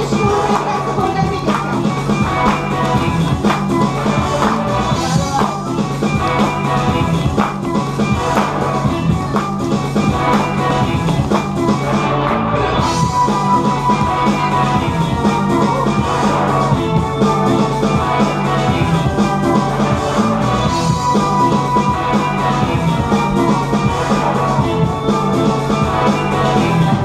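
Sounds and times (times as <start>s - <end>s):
rock band music: 0.0s - 27.0s.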